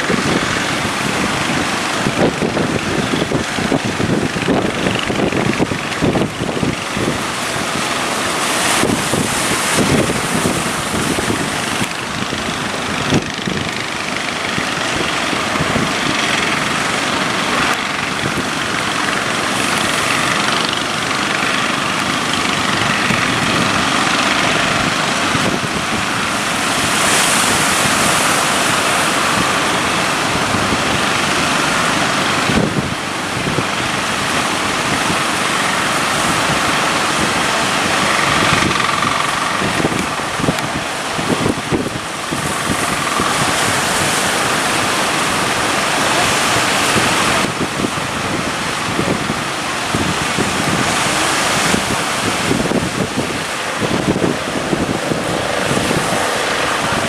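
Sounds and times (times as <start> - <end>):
boat engines running: 0.0 - 57.0
waves roaring: 0.0 - 57.0
wind noise on microphone: 0.0 - 57.0.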